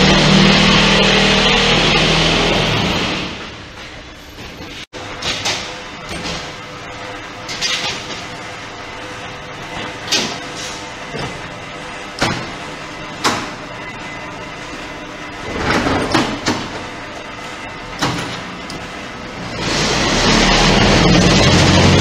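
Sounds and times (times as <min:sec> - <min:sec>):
brick-making machine humming: 0:00.0 - 0:22.0.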